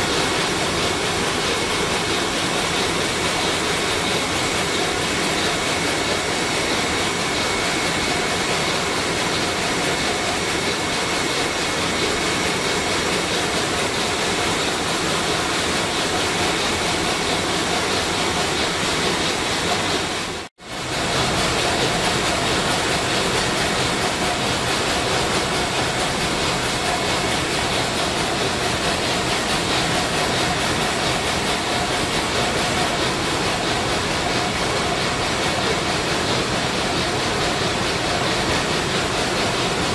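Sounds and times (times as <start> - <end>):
ship diesel engine running: 0.0 - 39.9.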